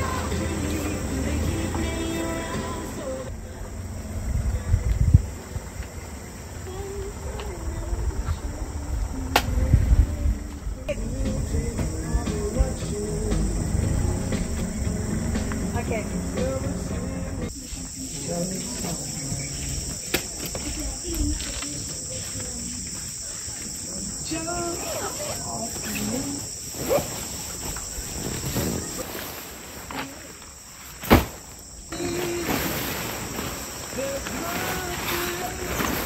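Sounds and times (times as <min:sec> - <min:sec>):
insects chirring: 0:00.0 - 0:36.0.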